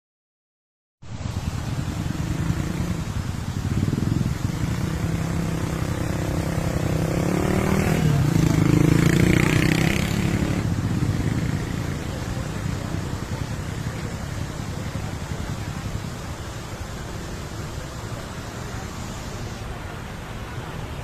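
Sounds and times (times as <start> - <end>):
vehicle engine running: 1.1 - 19.6.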